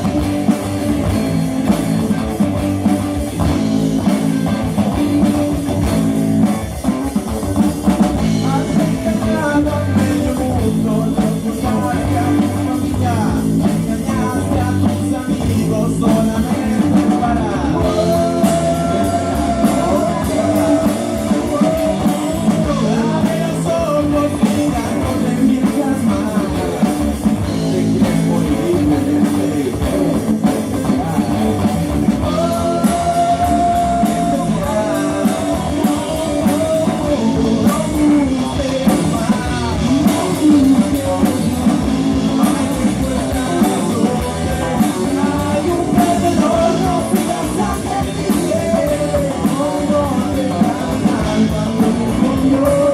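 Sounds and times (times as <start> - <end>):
drum kit: 0.0 - 52.9
electric guitar: 0.0 - 52.9
person singing: 0.0 - 52.9
punk rock music: 0.0 - 52.9.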